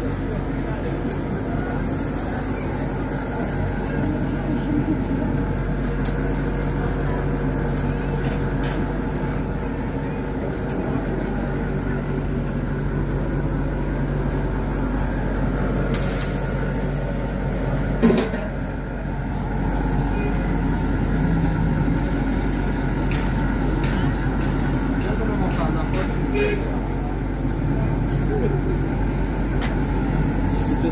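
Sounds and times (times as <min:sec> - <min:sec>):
grill hum: 0:00.0 - 0:30.9.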